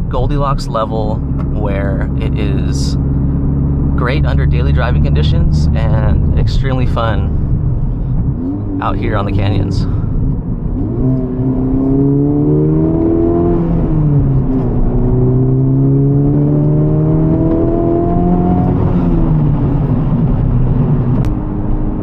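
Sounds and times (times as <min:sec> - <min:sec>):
turbocharged car engine accelerating: 0:00.0 - 0:22.0.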